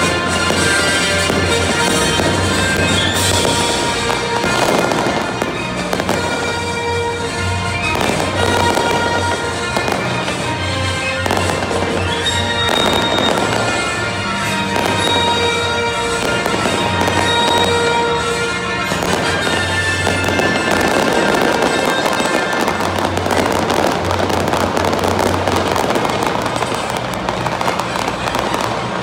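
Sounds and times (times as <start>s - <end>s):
fireworks bangs and crackles: 0.0s - 29.0s
music playing: 0.0s - 29.0s.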